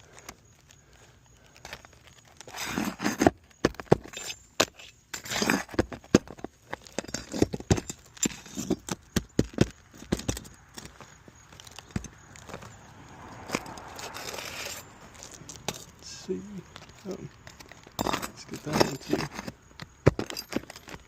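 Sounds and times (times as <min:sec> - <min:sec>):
scraping rustle: 0:00.0 - 0:21.0
shingle cracking and clicking: 0:00.1 - 0:12.8, 0:13.4 - 0:21.0.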